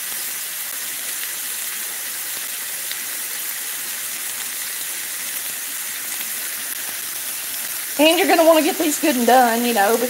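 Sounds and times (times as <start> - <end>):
meatballs sizzling in a pan: 0.0 - 10.0.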